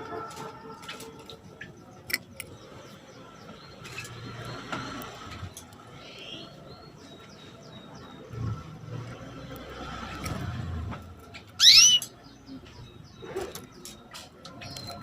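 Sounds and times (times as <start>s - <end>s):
canary chirping: 0.0s - 10.6s, 11.2s - 15.0s.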